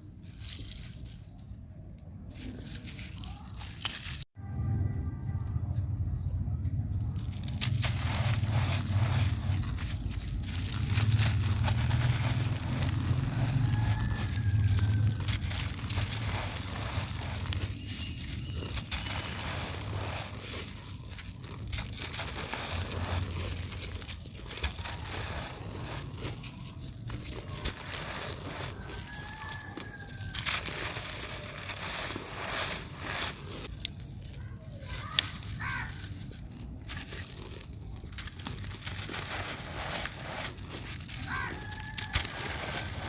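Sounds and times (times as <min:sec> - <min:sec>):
cement crumbling and crunching: 0:02.3 - 0:04.4, 0:05.8 - 0:43.0.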